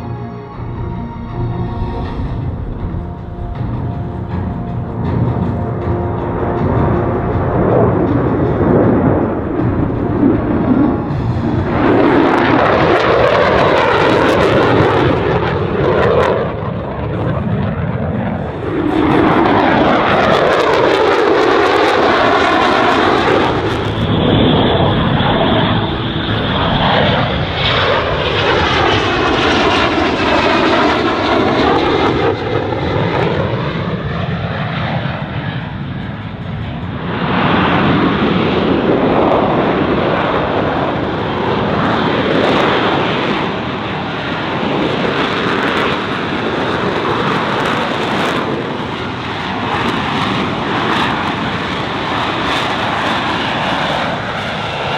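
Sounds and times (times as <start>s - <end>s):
high jet whine: 0.0s - 54.9s
jet fighter engine roar: 0.0s - 54.9s.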